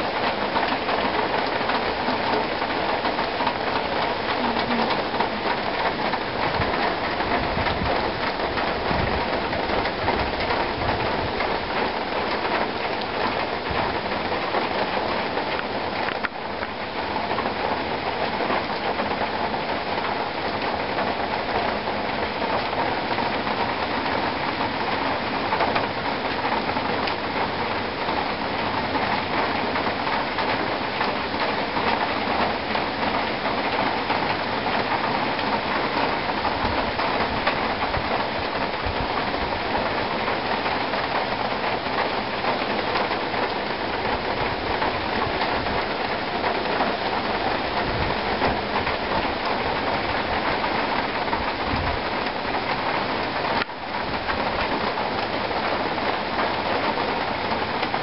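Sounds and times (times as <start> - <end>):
rain falling on leafy trees: 0.0 - 58.0.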